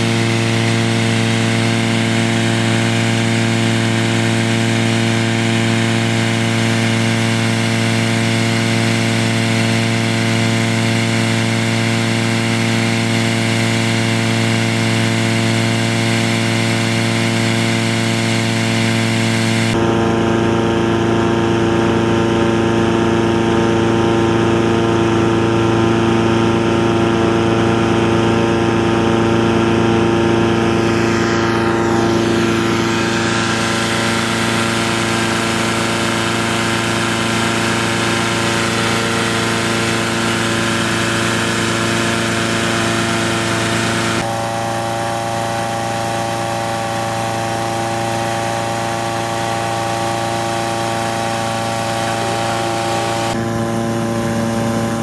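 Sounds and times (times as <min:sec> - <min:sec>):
engine-driven fan running: 0:00.0 - 0:55.0.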